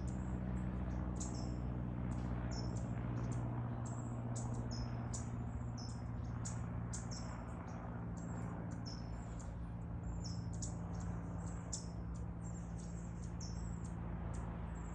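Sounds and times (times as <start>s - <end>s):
songbirds chirping: 0.0s - 14.9s
steady low hum: 0.0s - 14.9s.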